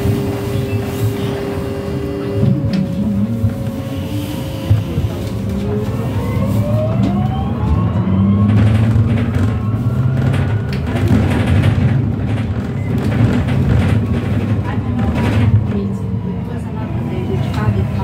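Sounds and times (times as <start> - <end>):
electric bus motor whining: 0.0 - 18.0
low rumble of bus on road: 0.0 - 18.0.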